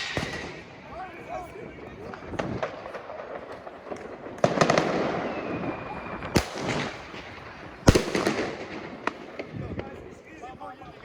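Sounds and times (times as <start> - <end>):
firework cracks with rushing tail: 0.0 - 1.0, 2.0 - 10.2
firework bangs: 0.0 - 10.2
firework crackles: 0.0 - 10.9.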